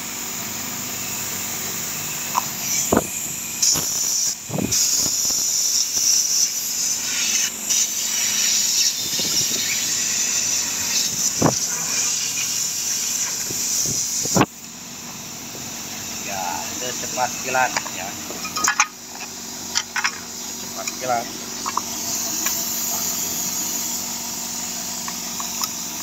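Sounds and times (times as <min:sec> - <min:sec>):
compressed air hissing: 0:01.2 - 0:26.0.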